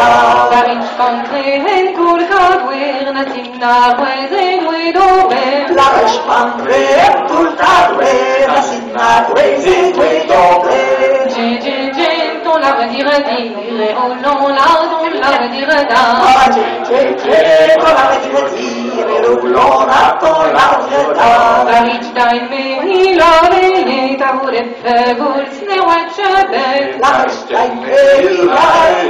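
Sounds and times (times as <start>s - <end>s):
group singing unaccompanied: 0.0s - 29.0s.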